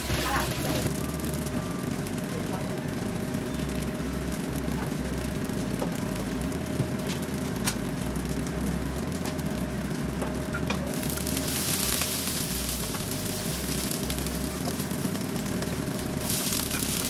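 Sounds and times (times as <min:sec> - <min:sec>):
faint steady hum: 0:00.0 - 0:17.0
food sizzling in hot oil: 0:00.0 - 0:17.0.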